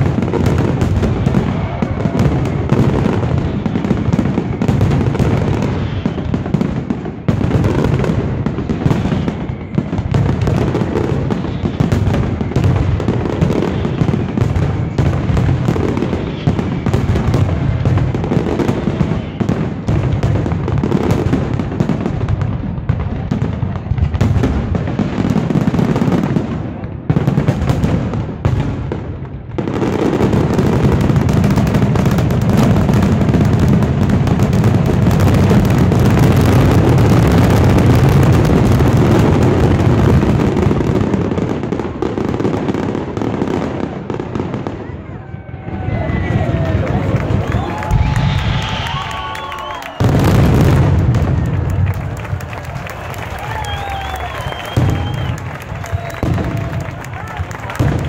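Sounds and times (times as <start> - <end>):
fireworks booming and crackling: 0.0 - 58.0.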